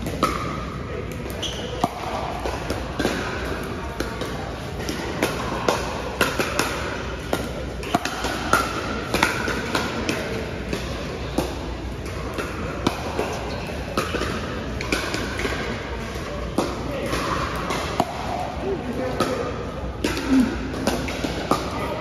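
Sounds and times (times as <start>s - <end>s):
paddles hitting plastic ball: 0.0s - 21.8s.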